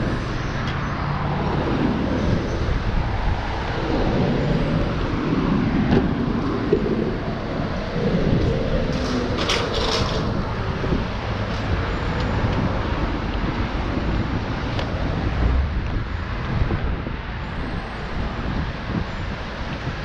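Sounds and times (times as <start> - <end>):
street traffic rumble: 0.0 - 20.0
wind buffeting microphone: 0.0 - 20.0.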